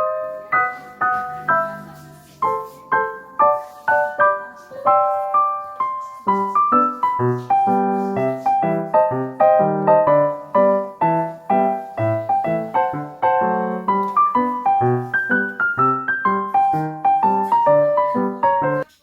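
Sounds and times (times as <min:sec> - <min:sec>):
light piano melody: 0:00.0 - 0:19.0.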